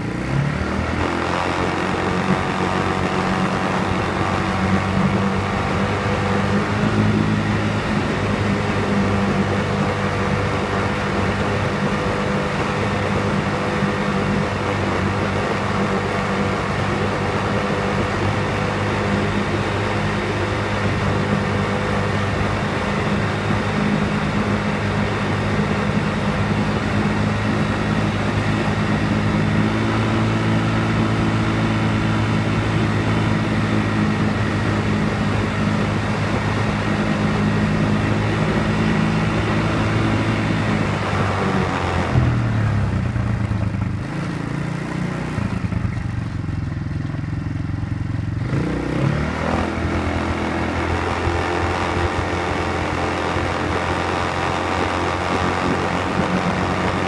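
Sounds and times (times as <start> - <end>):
atv engine running: 0.0 - 57.0
road noise: 0.0 - 57.0.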